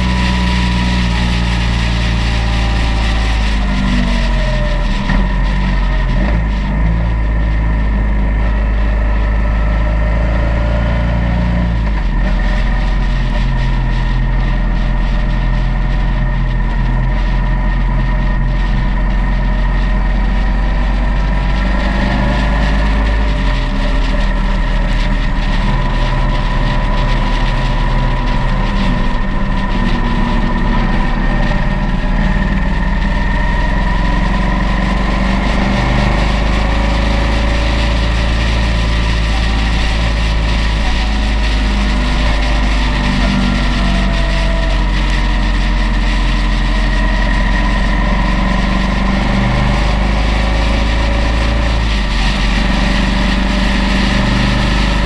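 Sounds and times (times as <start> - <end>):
motorcycle engine cruising: 0.0 - 55.0
wind noise: 0.0 - 55.0.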